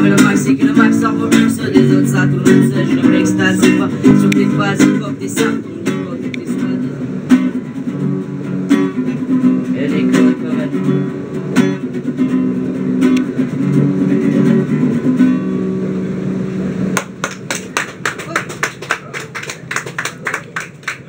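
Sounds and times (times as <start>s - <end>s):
percussive guitar strums: 0.0s - 18.7s
classical guitar chords: 0.0s - 19.1s.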